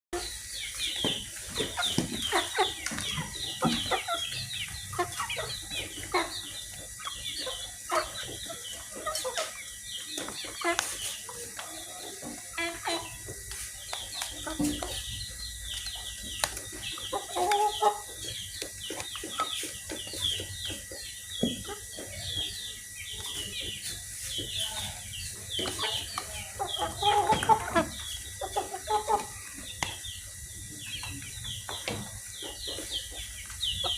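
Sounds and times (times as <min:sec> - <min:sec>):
chickens clucking: 0:00.2 - 0:33.9.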